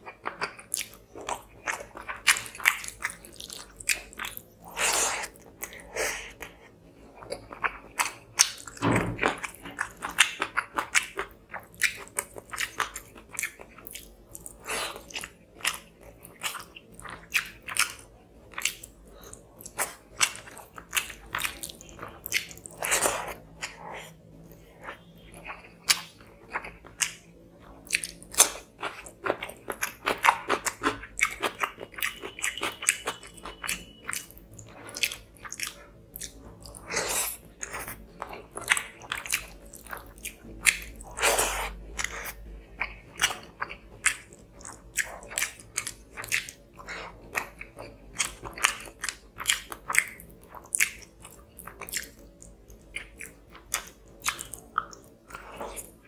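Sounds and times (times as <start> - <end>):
crunchy chewing: 0.0 - 56.0
wet chewing and mouth smacking: 0.0 - 56.0.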